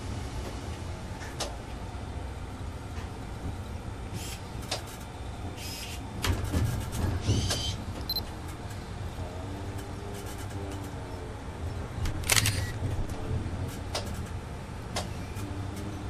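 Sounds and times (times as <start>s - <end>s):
diesel train engine rumble: 0.0s - 16.0s.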